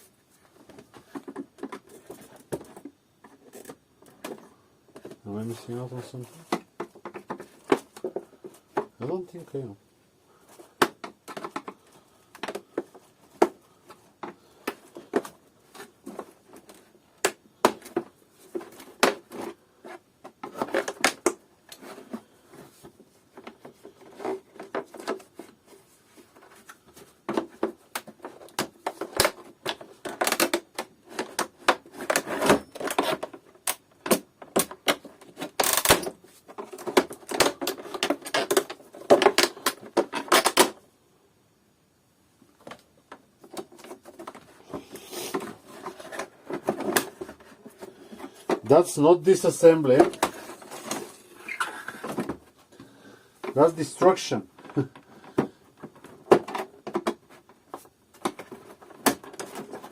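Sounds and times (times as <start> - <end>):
hand tools on hard plastic: 0.0 - 9.7, 10.3 - 40.8, 42.4 - 59.9.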